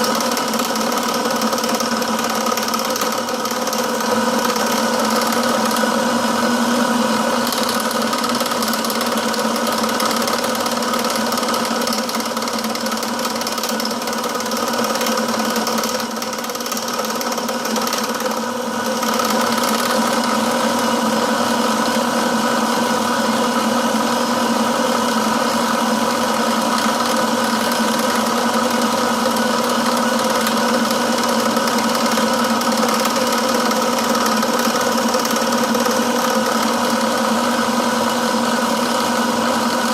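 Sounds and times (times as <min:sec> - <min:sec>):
milling machine hum and whine: 0:00.0 - 0:39.9.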